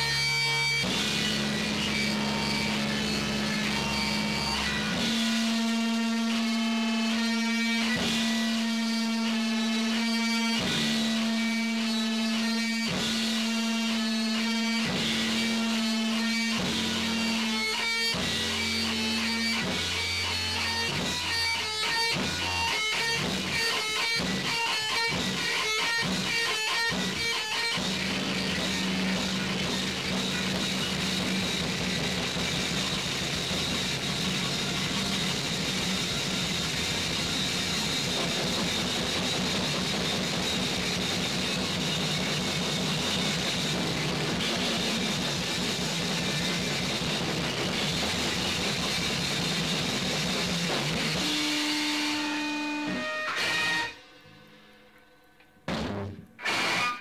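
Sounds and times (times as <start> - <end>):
noise rock guitar music: 0.0 - 57.0.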